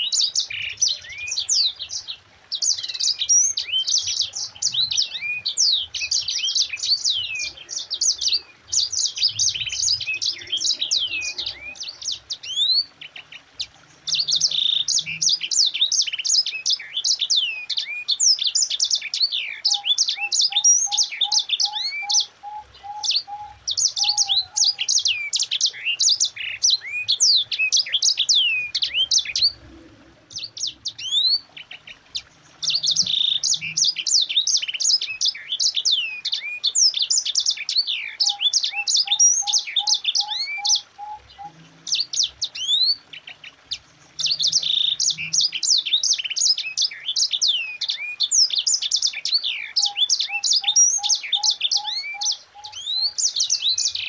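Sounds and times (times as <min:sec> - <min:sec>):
bird singing rapid rolling song: 0:00.0 - 0:54.0.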